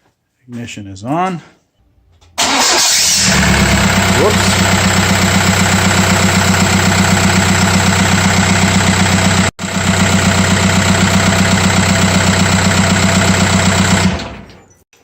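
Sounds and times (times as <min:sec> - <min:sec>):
diesel engine idling: 0:02.4 - 0:14.6.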